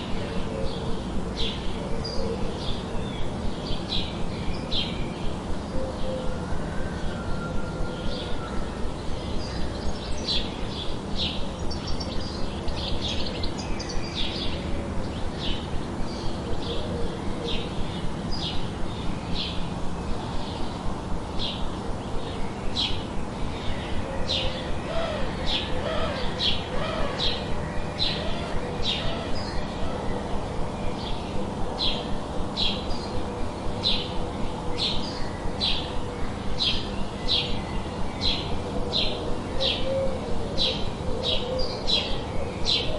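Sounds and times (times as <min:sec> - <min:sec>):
white noise hiss: 0:00.0 - 0:42.9.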